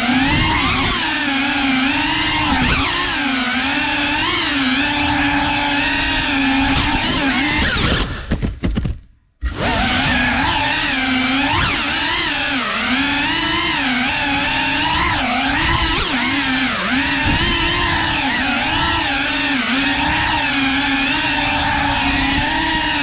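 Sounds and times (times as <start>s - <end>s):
quadcopter motors whining: 0.0s - 8.3s, 9.4s - 23.0s.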